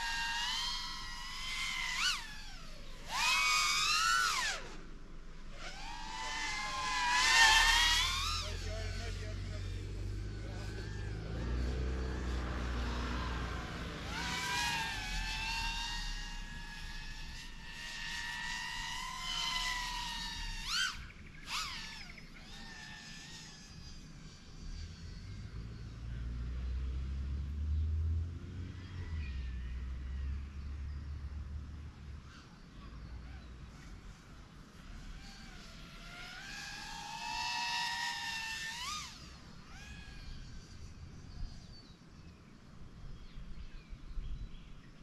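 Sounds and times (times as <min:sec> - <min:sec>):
drone motors whining: 0:00.0 - 0:27.6, 0:28.2 - 0:41.8.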